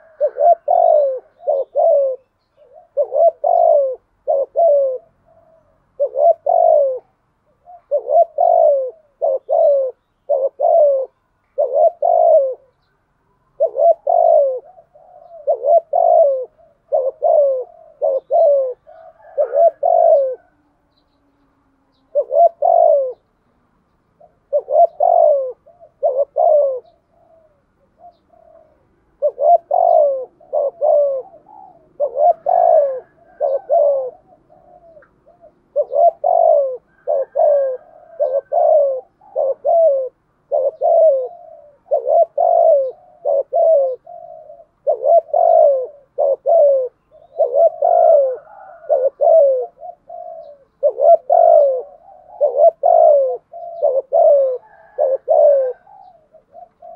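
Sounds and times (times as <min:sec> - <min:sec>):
dove cooing: 0:00.0 - 0:23.4, 0:24.0 - 0:56.9.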